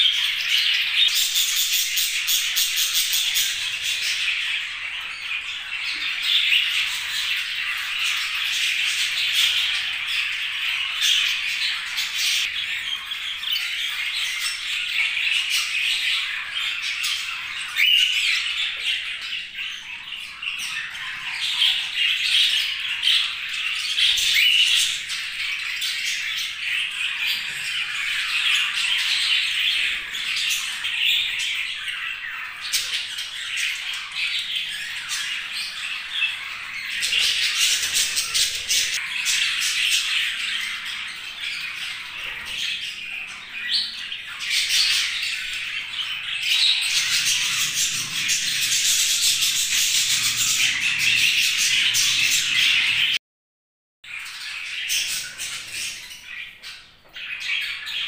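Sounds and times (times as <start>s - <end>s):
budgerigars chattering and warbling: 0.0s - 53.2s, 54.1s - 58.0s.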